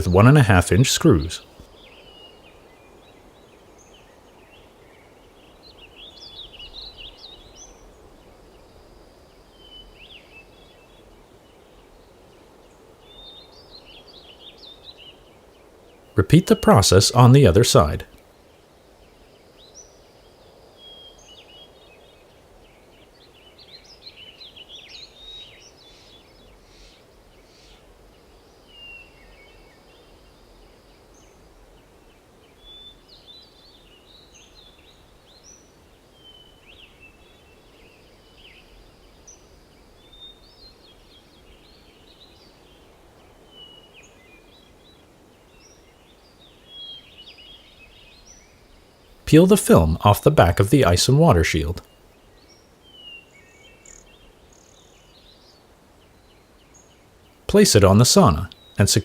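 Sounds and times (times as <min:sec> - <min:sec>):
faint birdsong: 0:00.0 - 0:59.0.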